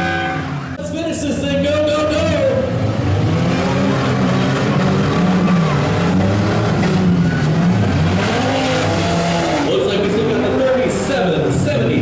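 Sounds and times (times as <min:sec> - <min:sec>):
vehicle engines revving: 0:00.0 - 0:12.0.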